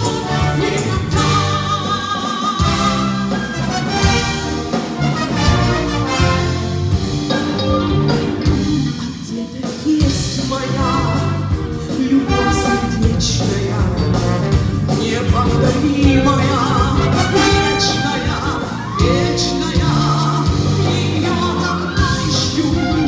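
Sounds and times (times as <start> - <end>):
woman singing: 0.0 - 4.0, 7.6 - 23.0
brass band playing: 0.0 - 9.2, 10.0 - 23.0.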